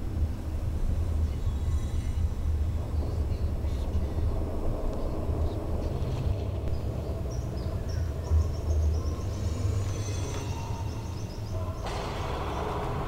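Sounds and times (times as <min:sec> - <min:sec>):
birds chirping: 0:01.0 - 0:13.0.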